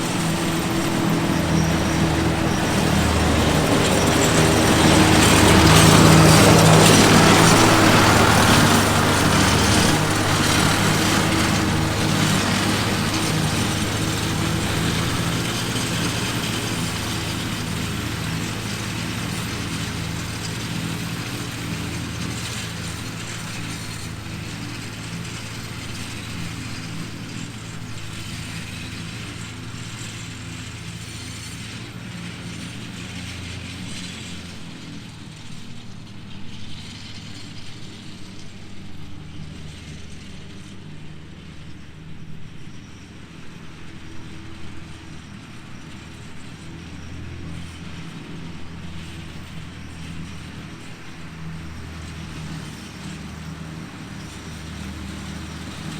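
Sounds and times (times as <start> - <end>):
mower cutting grass: 0.0 - 55.9
tractor engine running under load: 0.0 - 55.9.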